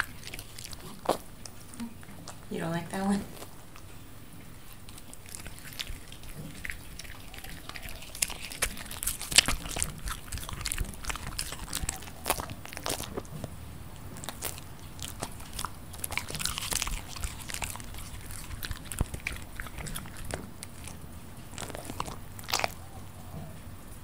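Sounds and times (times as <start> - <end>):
crunchy chewing: 0.0 - 23.7.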